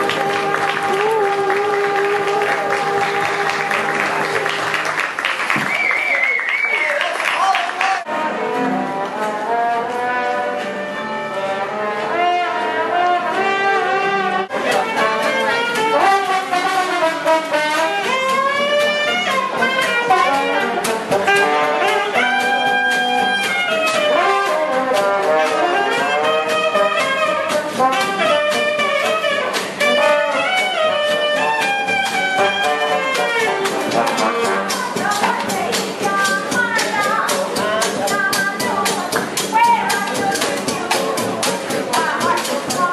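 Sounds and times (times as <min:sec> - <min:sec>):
brass band playing jazz: 0:00.0 - 0:07.0, 0:07.6 - 0:42.9.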